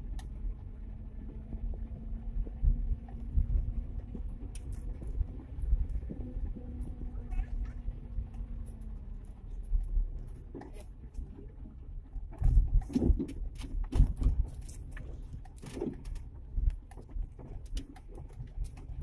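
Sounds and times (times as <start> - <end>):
faint engine hum: 0.0 - 19.0
vehicle rumbling on dirt track: 0.0 - 19.0.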